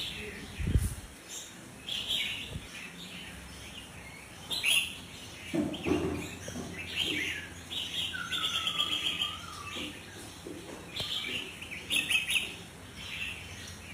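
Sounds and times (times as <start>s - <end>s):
bird chirping: 0.0s - 13.9s.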